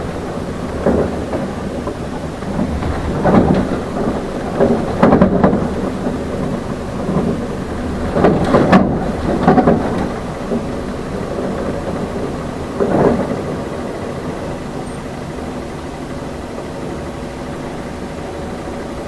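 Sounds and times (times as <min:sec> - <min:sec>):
rattling knocks: 0:00.0 - 0:16.1
bus engine and road rumble: 0:00.0 - 0:19.0.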